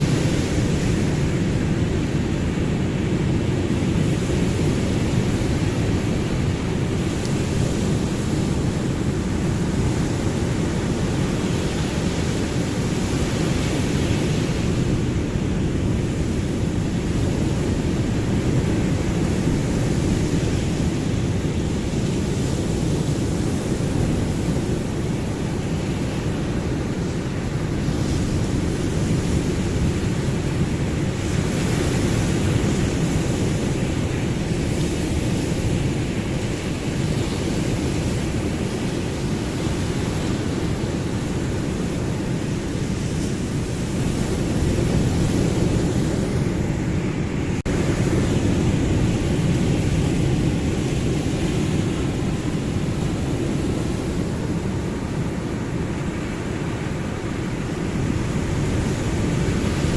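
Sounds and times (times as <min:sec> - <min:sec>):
ocean waves rushing: 0:00.0 - 0:59.9.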